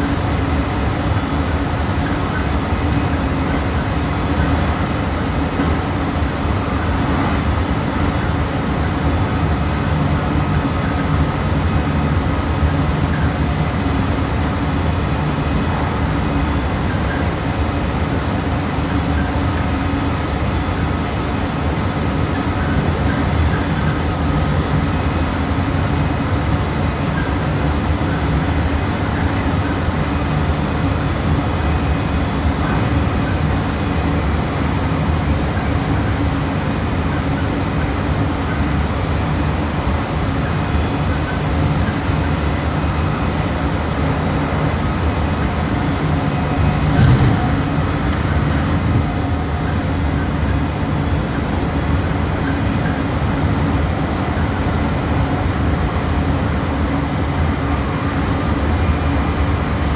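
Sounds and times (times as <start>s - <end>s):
train motor hum: 0.0s - 59.9s
wheels rumbling on rail: 0.0s - 59.9s.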